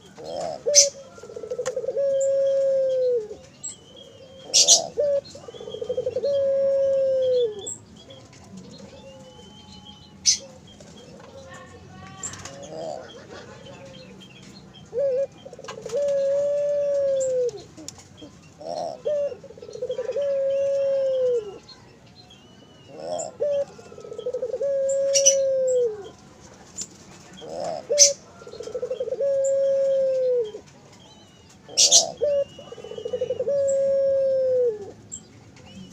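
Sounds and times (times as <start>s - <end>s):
dove cooing: 0.0s - 11.6s, 12.2s - 14.2s, 14.8s - 21.8s, 22.8s - 35.0s.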